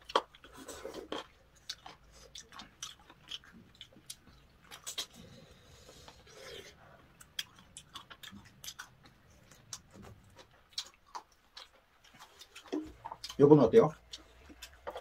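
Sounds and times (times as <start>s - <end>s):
chewing: 0.0s - 15.0s.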